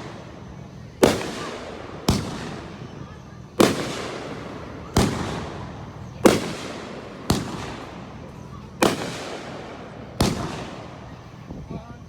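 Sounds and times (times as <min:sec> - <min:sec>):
firework shells bursting: 0:00.0 - 0:11.4.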